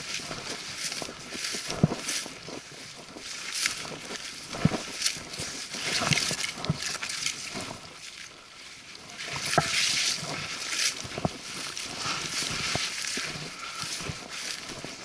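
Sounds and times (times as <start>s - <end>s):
brush swishing and scraping: 0.0s - 15.0s.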